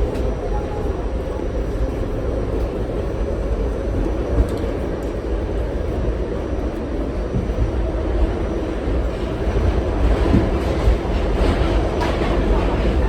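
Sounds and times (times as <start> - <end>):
subway car wheels rumbling on rails: 0.0 - 13.0.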